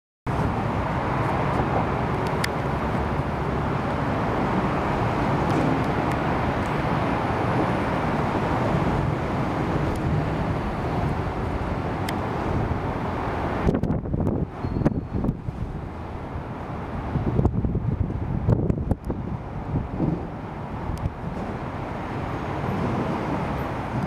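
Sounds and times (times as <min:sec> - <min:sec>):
distant road traffic rumble: 0:00.3 - 0:24.0.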